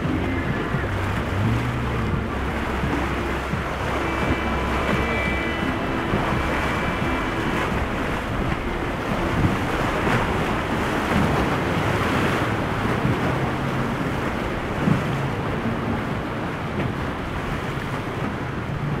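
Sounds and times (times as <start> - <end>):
boat engines droning: 0.0 - 19.0
hull rushing through water: 0.0 - 19.0
surf and breaking waves: 0.0 - 19.0
wind buffeting microphone: 0.0 - 19.0.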